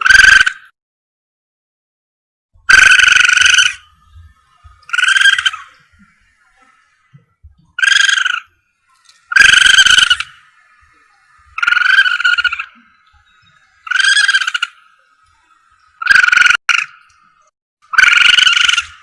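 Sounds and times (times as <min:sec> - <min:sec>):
civet screech calls: 0:02.7 - 0:17.0, 0:17.9 - 0:19.0.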